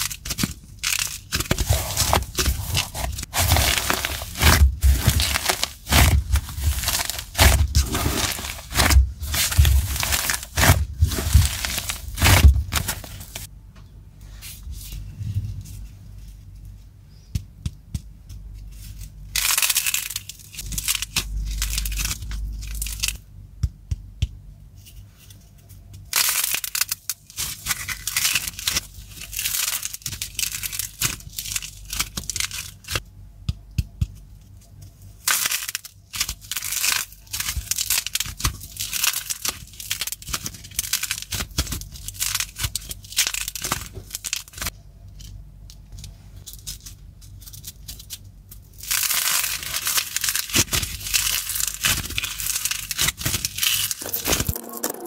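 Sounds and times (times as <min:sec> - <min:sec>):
clay cracking and crunching: 0:00.0 - 0:13.5, 0:17.3 - 0:55.0.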